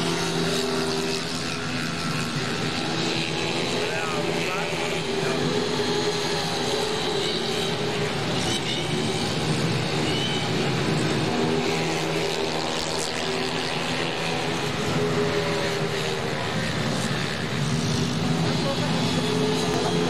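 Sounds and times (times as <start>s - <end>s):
scooter engines racing: 0.0s - 20.0s.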